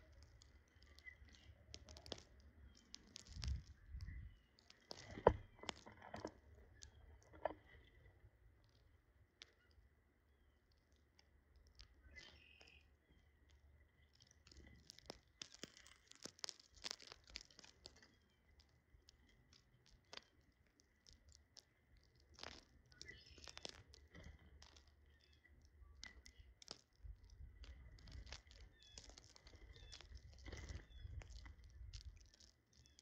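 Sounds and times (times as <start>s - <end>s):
birds pecking at food: 0.0s - 33.0s.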